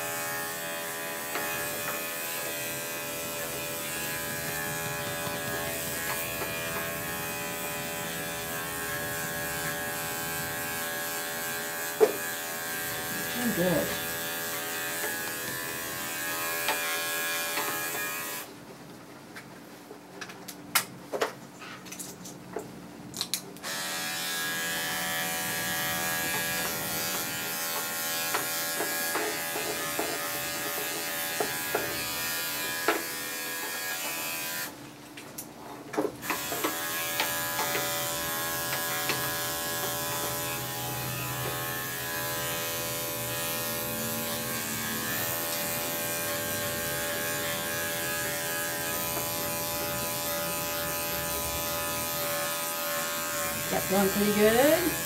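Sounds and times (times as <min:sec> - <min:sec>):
electric clippers buzzing: 0:00.0 - 0:18.5, 0:23.6 - 0:34.8, 0:36.2 - 0:55.0.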